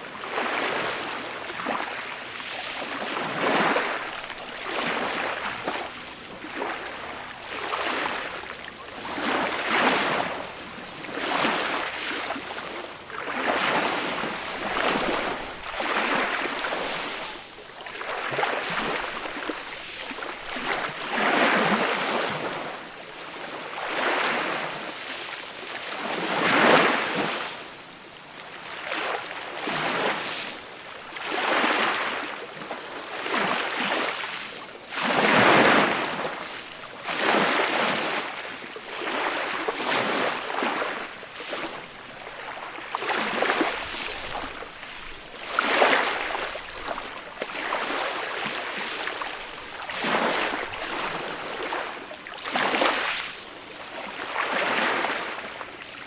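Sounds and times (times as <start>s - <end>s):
small waves washing on a beach: 0.0s - 56.0s.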